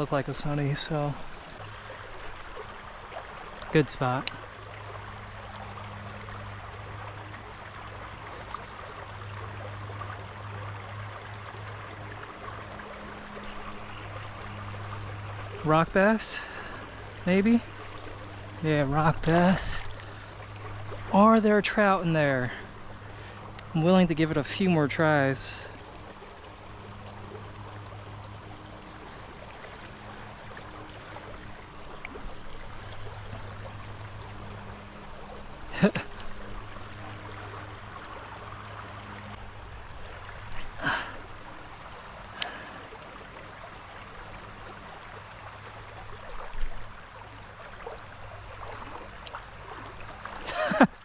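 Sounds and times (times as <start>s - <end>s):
creek water running over stones: 0.0s - 51.0s
low steady hum: 0.0s - 51.0s.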